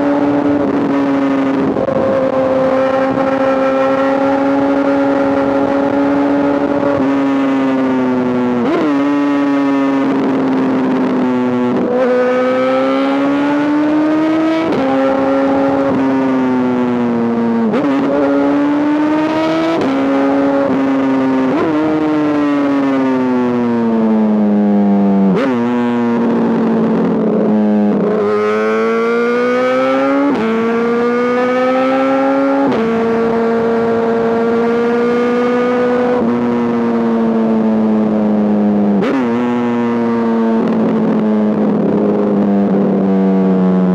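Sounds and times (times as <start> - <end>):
motorcycle engine changing gears: 0.0 - 43.9.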